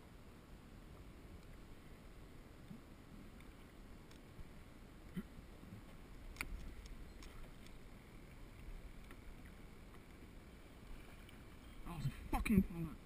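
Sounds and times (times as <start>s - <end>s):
water lapping against kayak: 0.0s - 13.0s.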